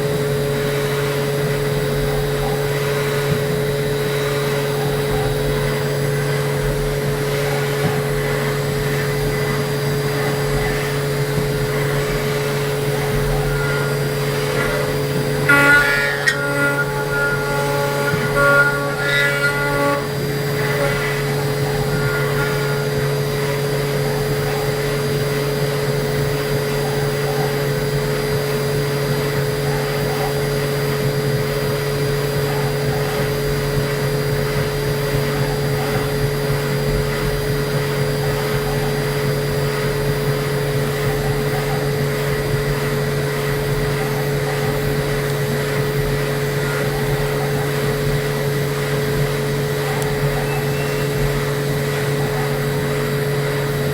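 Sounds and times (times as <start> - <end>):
milling machine humming and whining: 0.0 - 53.9.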